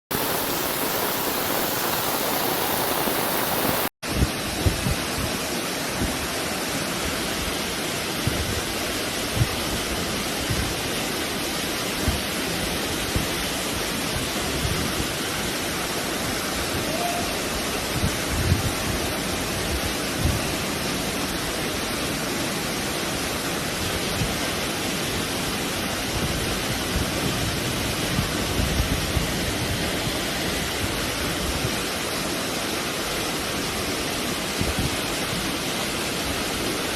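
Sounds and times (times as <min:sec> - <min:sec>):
heavy rain: 0:00.1 - 0:04.6, 0:05.3 - 0:36.9
rushing floodwater: 0:00.1 - 0:36.9.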